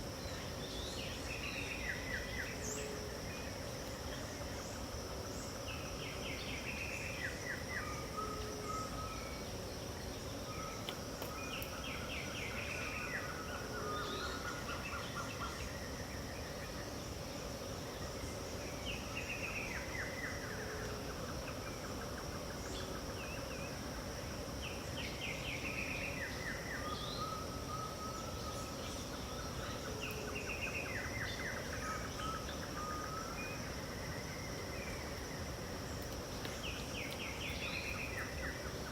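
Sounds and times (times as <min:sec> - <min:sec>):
bird chirps and buzzy trills: 0:00.0 - 0:38.9.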